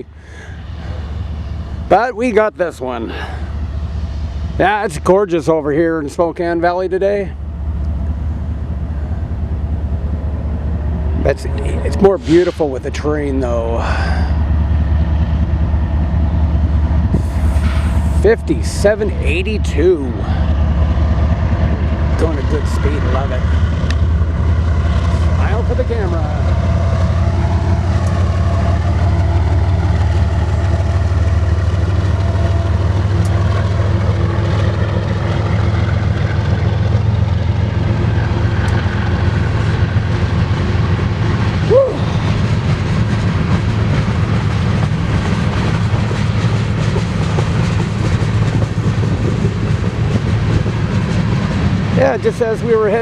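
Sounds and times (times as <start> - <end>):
freight train wheels clattering: 0.4 - 53.0.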